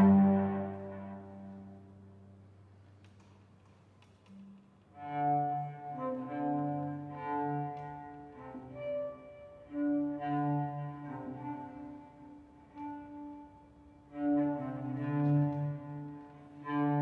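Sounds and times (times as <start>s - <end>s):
slow bowed string music: 0.0s - 3.3s, 4.0s - 17.0s.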